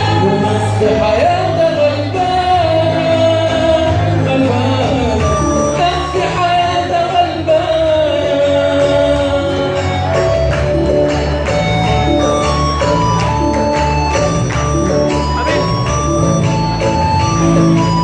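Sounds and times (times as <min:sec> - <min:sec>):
live band playing a hymn: 0:00.0 - 0:18.0.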